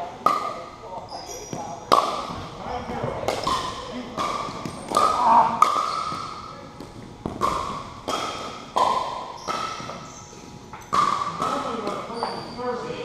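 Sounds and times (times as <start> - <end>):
ball bouncing on wooden floor: 1.2 - 12.6.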